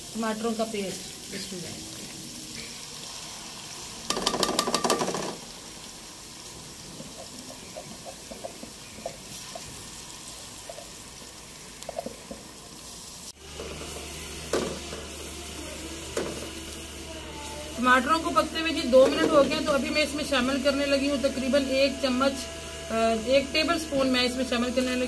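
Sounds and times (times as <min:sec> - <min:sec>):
oil sizzling in a pan: 0:00.0 - 0:25.0.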